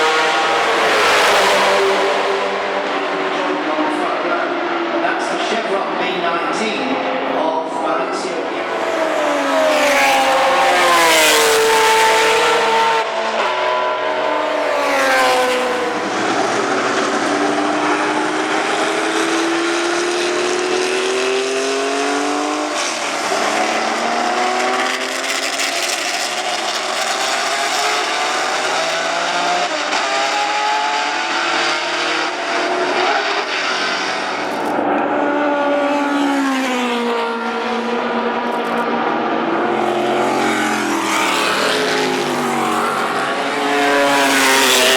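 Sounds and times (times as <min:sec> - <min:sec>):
racing engine at high revs: 0:00.0 - 0:44.9.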